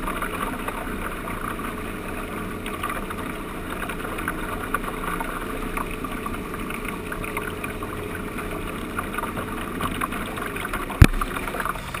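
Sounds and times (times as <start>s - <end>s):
boat motor running: 0.0s - 12.0s
water rushing along hull: 0.0s - 12.0s.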